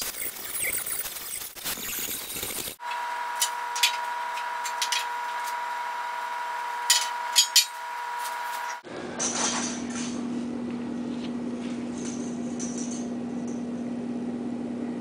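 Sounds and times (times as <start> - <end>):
steady background hum: 2.8 - 15.0.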